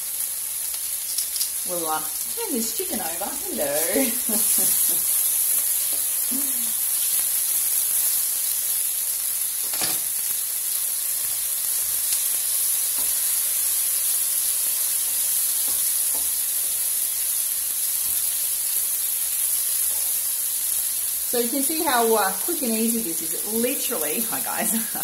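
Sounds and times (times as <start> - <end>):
food sizzling in frying pan: 0.0 - 25.0.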